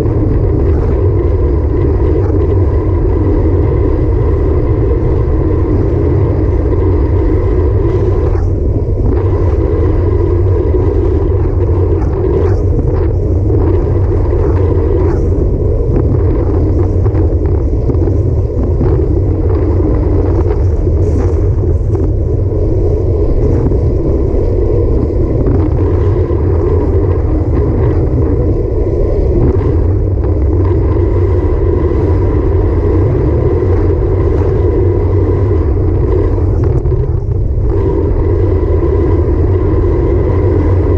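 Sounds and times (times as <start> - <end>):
tyres rumbling on asphalt: 0.0 - 40.9
wind buffeting microphone: 0.0 - 40.9.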